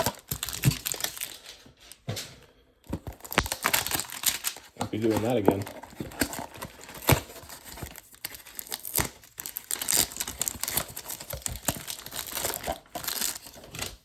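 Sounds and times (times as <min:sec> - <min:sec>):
plastic packaging crinkling and tearing: 0:00.0 - 0:02.0, 0:02.8 - 0:14.0.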